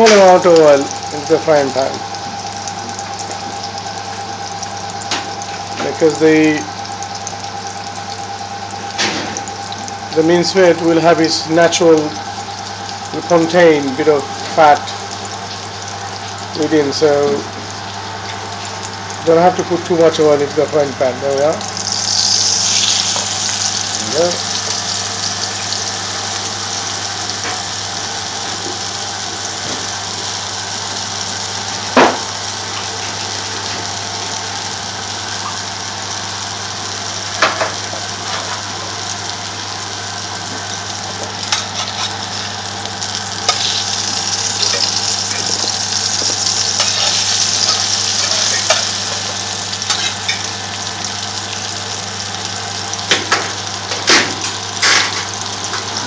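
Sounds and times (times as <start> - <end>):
meat sizzling in a frying pan: 0.0 - 56.0.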